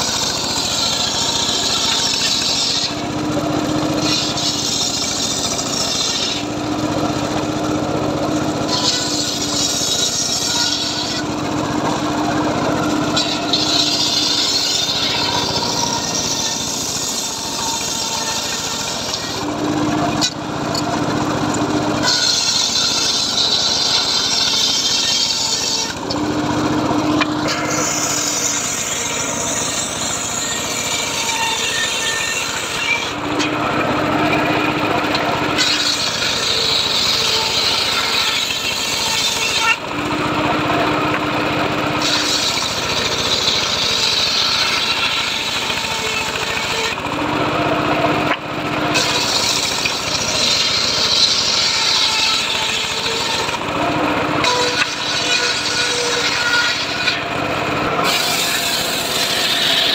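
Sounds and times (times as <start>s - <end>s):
circular saw cutting wood: 0.0s - 59.9s
saw blade spinning free: 0.0s - 59.9s.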